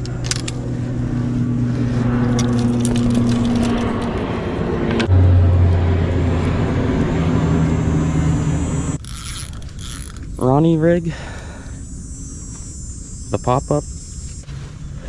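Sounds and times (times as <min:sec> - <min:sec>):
motor engine droning: 0:00.0 - 0:15.0.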